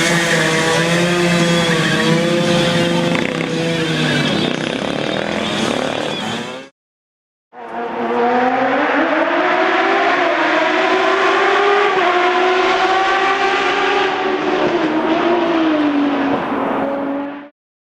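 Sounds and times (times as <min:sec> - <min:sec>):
racing motorcycle engine accelerating: 0:00.0 - 0:06.7, 0:07.6 - 0:17.5.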